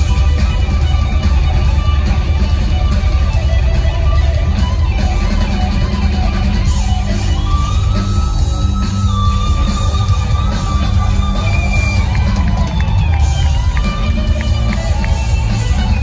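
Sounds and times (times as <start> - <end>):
bass and drums: 0.0 - 16.0
electric guitar lead notes: 0.0 - 16.0.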